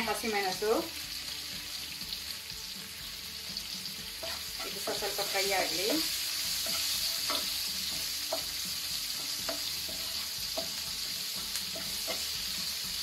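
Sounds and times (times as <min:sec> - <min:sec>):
food sizzling in hot ghee: 0:00.0 - 0:13.0.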